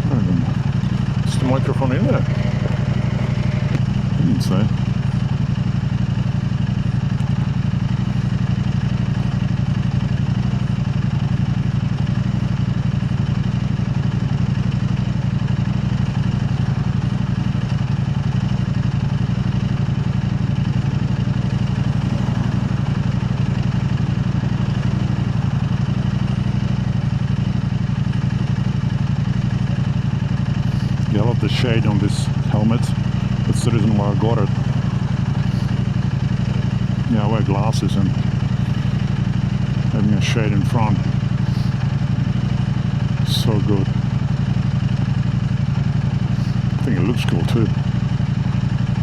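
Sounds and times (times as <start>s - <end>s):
motorcycle engine running steadily: 0.0s - 49.0s.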